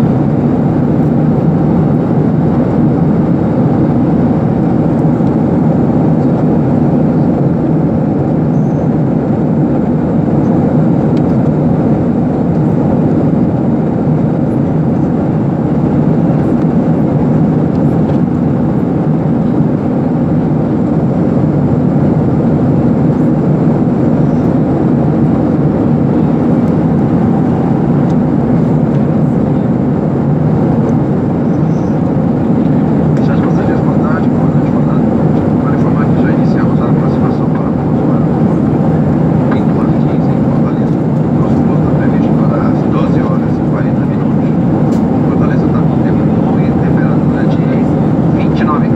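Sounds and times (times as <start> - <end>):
jet engine cabin hum: 0.0 - 48.9.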